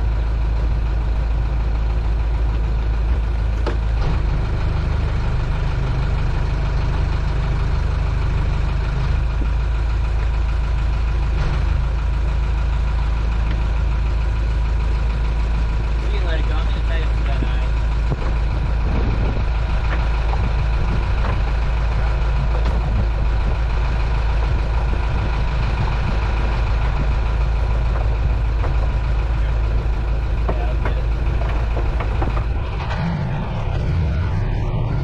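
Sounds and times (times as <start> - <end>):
boat engine idling: 0.0 - 35.0.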